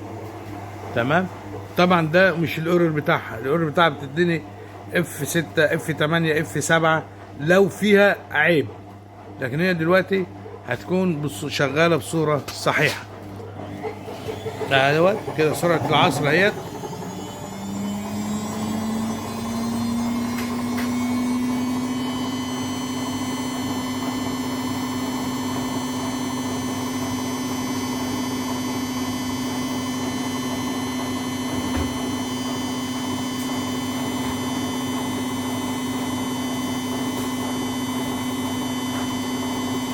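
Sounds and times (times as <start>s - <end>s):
washing machine motor whine: 0.0s - 39.9s.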